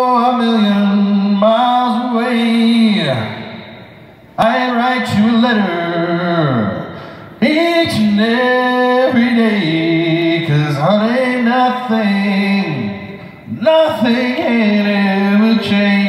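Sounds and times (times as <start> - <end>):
man singing through pa system: 0.0 - 16.0.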